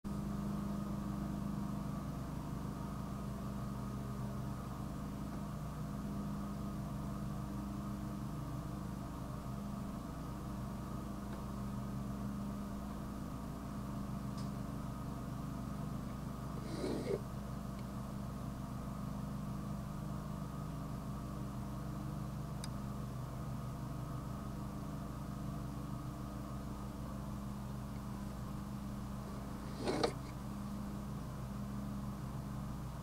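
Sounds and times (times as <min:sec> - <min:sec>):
steady mechanical hum: 0:00.1 - 0:33.0.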